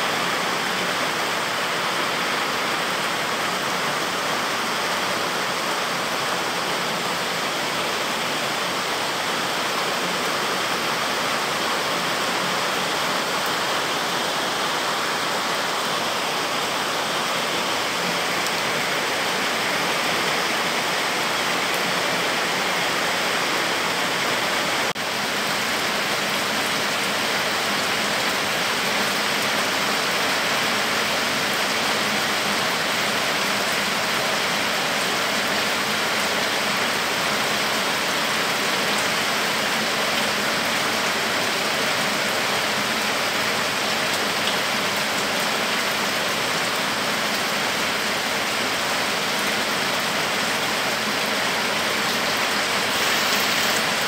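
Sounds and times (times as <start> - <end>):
heavy rain on trees and road: 0.0 - 54.0.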